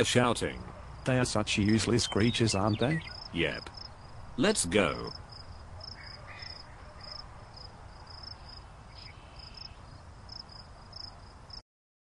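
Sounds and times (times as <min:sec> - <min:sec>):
crickets chirping: 0:00.6 - 0:11.6.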